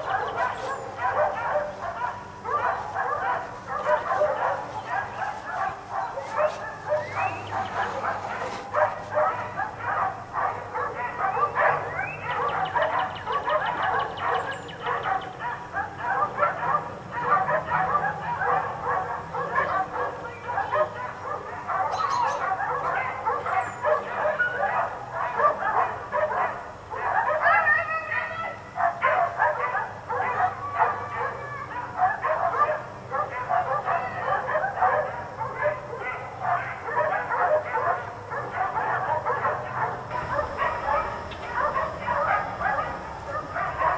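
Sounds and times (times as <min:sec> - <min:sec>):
dogs barking and yelping: 0:00.0 - 0:43.9.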